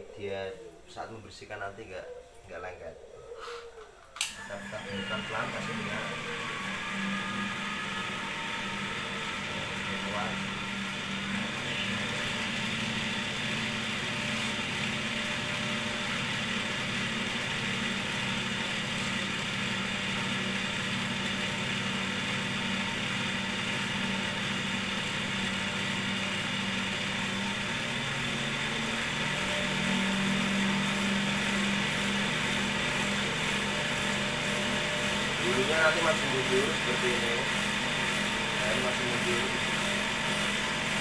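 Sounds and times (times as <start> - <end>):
cotton candy machine motor whirring: 4.1 - 41.0.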